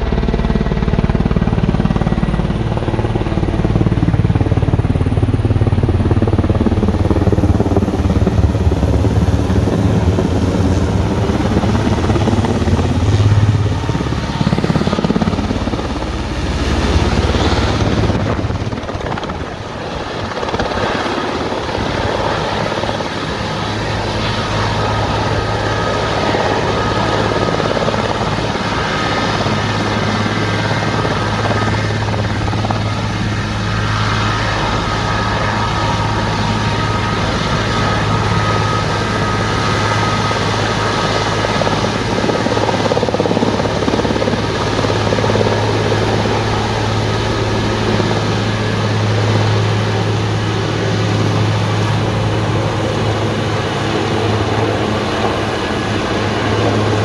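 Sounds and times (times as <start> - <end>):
helicopter rotor drone: 0.0 - 57.0
high engine whine: 0.0 - 57.0.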